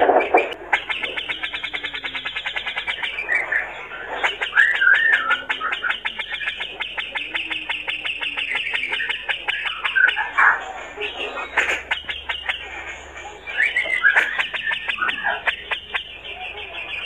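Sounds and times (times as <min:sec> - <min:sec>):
bird chattering rattle: 0:00.0 - 0:17.0
bird warbled whistles: 0:00.0 - 0:17.0.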